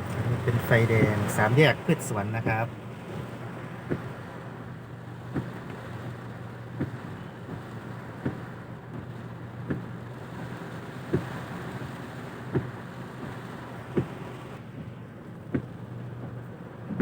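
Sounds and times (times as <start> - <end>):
rain hissing: 0.0 - 16.6
low engine hum: 0.0 - 17.0
windscreen wipers thumping: 0.0 - 17.0.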